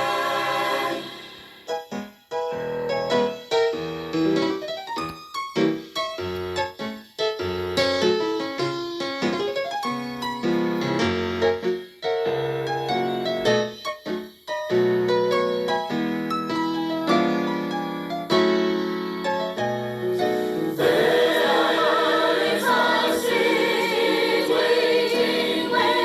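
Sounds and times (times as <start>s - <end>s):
solo piano chords and runs: 1.5s - 26.0s.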